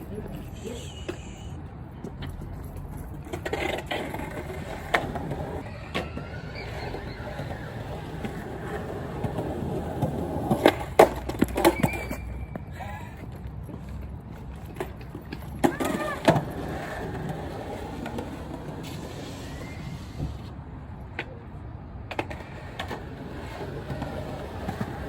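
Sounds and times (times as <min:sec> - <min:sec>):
skateboard wheels rolling on pavement: 0:00.0 - 0:25.0
skateboard clacks and knocks: 0:02.0 - 0:20.4, 0:22.0 - 0:25.0.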